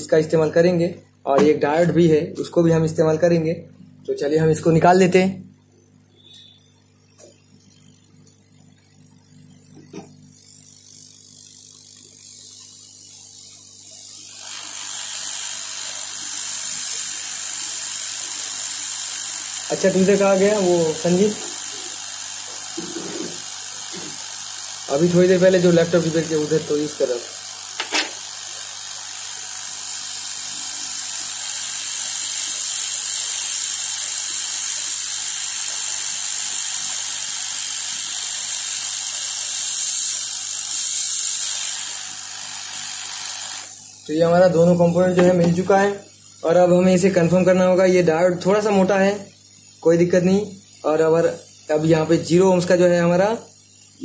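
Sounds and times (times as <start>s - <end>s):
hot-air gun hissing: 9.8s - 54.0s.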